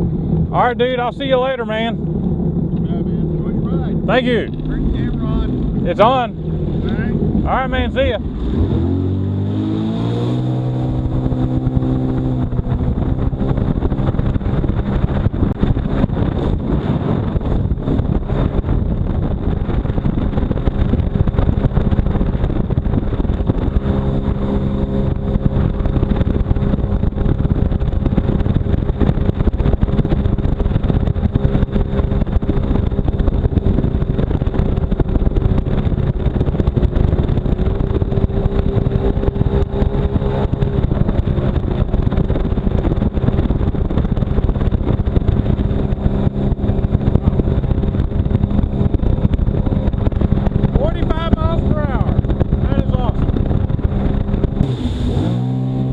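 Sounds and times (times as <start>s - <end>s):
jet ski engine running: 0.0s - 55.9s
water noise: 0.0s - 55.9s
wind noise: 0.0s - 55.9s.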